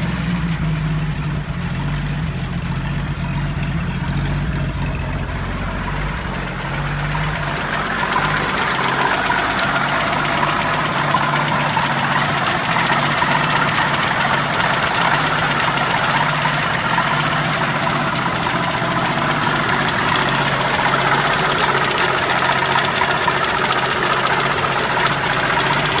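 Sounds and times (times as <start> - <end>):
engine idling with a knock: 0.0 - 26.0.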